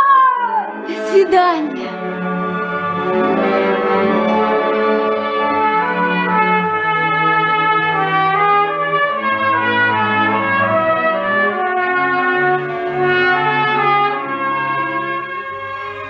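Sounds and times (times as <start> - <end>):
orchestral music with brass: 0.7 - 16.0.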